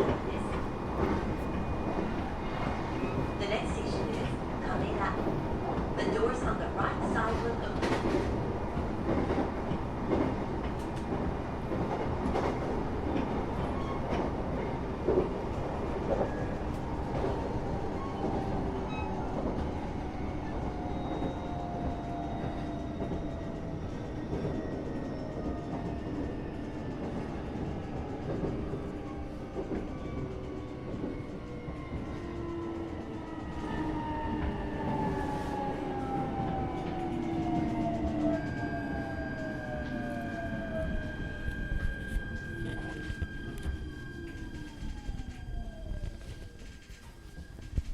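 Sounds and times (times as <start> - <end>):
train rumbling on rails: 0.0 - 47.9.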